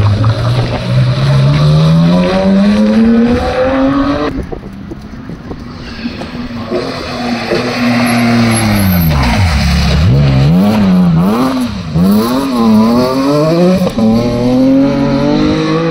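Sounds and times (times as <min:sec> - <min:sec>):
rally car engine revving: 0:00.0 - 0:04.4, 0:06.5 - 0:15.9.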